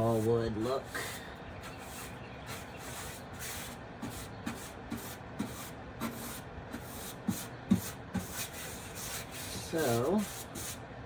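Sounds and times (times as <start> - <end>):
paintbrush strokes on wood: 0.0 - 10.8.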